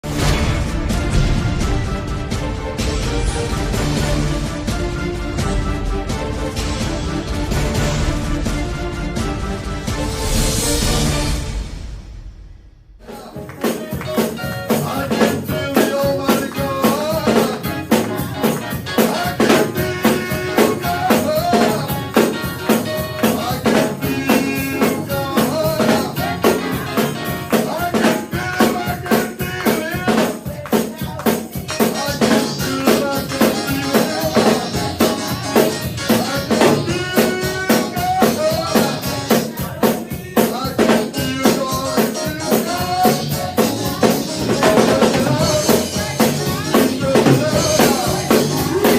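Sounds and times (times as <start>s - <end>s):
drum kit beat: 0.0s - 48.9s
worship band playing: 0.0s - 48.9s.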